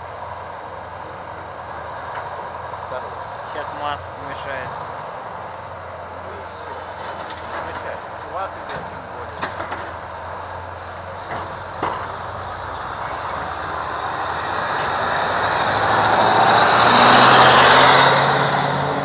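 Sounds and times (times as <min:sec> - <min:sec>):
truck diesel engine running: 0:00.0 - 0:19.0.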